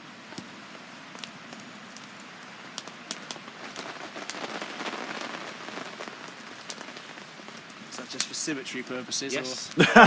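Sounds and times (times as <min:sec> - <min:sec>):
rain falling: 0:00.0 - 0:10.0
raindrops ticking on microphone: 0:00.0 - 0:10.0.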